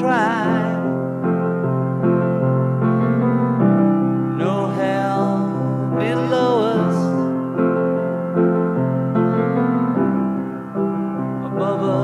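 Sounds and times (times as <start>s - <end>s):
piano accompaniment: 0.0s - 12.0s.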